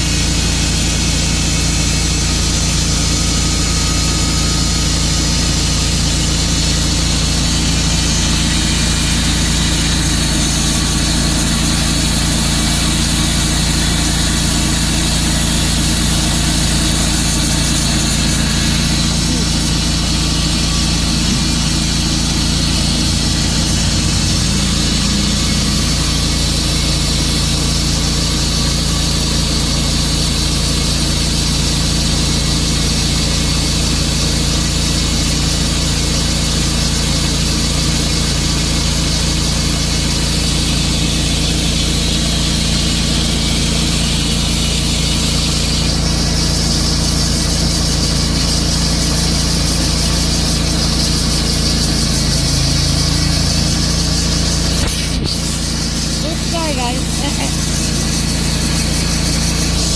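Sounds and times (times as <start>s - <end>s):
saw cutting into wood: 0.0s - 59.9s
sawmill engine running: 0.0s - 59.9s.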